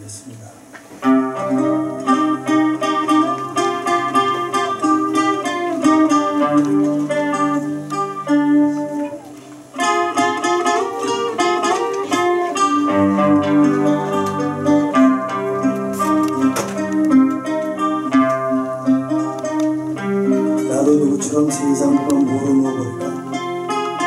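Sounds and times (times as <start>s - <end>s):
acoustic guitar picking: 0.6s - 24.0s.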